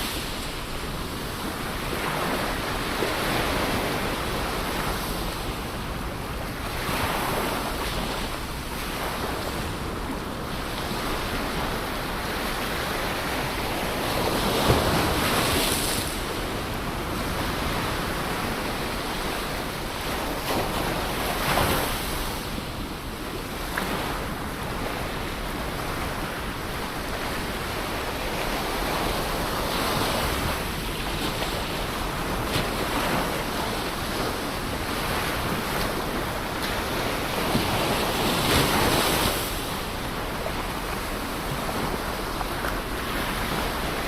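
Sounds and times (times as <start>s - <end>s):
ocean waves breaking on shore: 0.0s - 44.0s.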